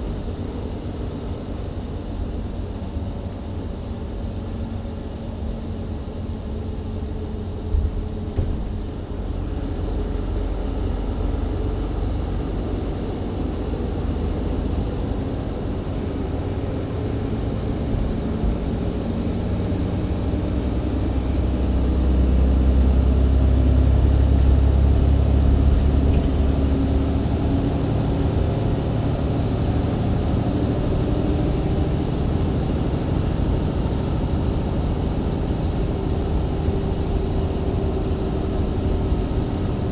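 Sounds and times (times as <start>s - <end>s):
bus diesel engine: 0.0s - 39.9s
road noise: 0.0s - 39.9s.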